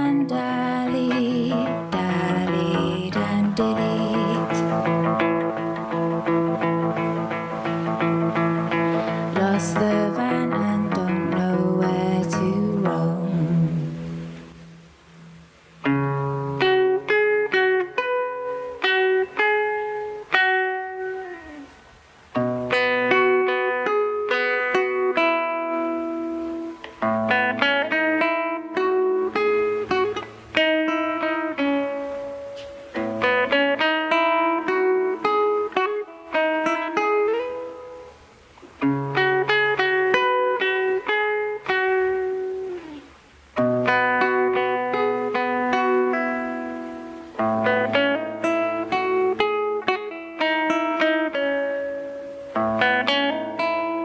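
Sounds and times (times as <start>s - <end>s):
fingerpicked classical guitar: 0.0s - 54.0s.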